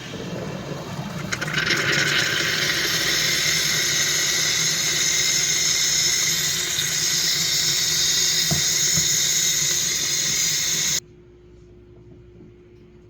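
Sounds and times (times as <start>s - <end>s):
coffee machine hissing: 0.0s - 11.0s.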